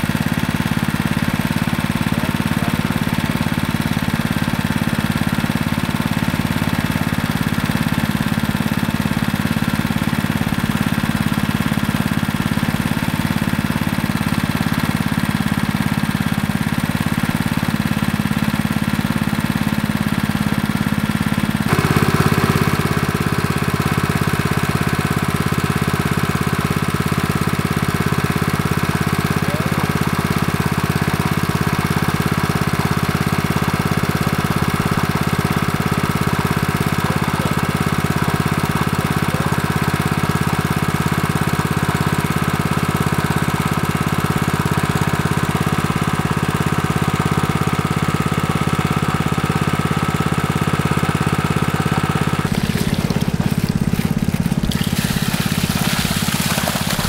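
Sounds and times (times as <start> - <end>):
water pump engine running: 0.0 - 57.0.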